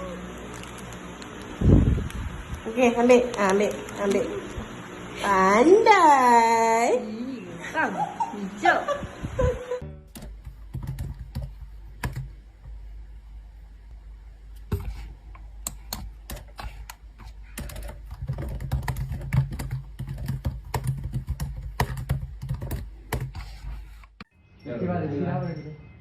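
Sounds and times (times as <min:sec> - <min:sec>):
low steady hum: 0:00.0 - 0:24.2.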